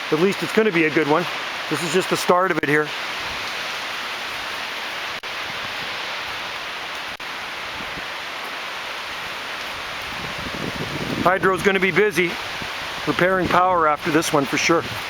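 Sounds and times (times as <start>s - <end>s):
strong wind rushing through trees: 0.0s - 15.0s.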